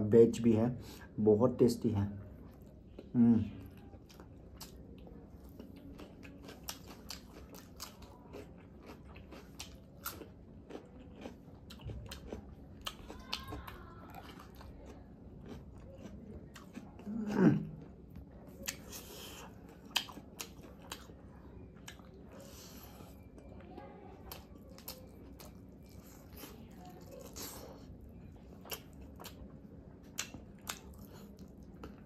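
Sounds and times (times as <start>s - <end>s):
wet chewing and crunching: 2.2s - 32.0s.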